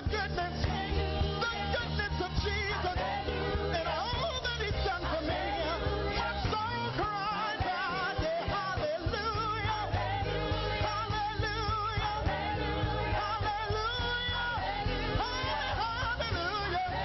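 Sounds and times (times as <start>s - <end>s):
band with steady bass: 0.0s - 17.0s
praise team singing: 0.0s - 17.0s.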